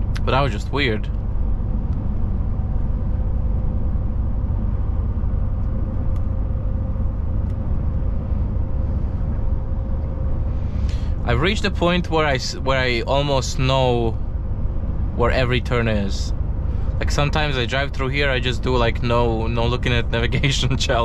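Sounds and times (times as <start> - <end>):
faint steady whine: 0.0 - 21.0
road noise: 0.0 - 21.0
truck engine rumble: 0.0 - 21.0.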